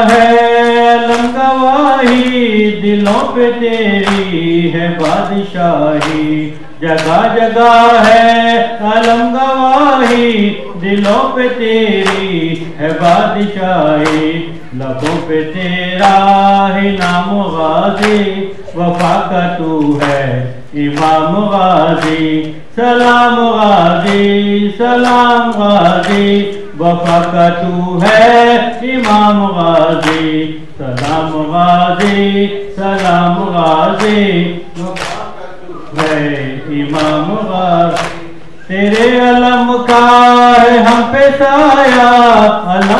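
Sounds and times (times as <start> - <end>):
men chanting a lament: 0.0 - 42.9.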